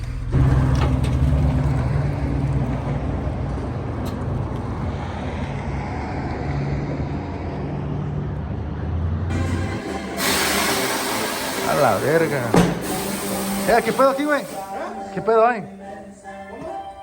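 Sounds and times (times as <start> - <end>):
vehicle engine drone: 0.0 - 15.1.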